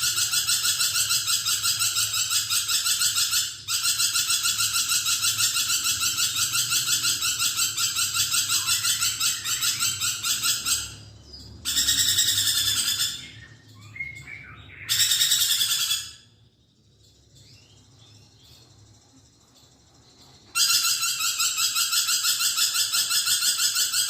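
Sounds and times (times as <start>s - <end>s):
lorikeet chattering: 0.0s - 24.0s.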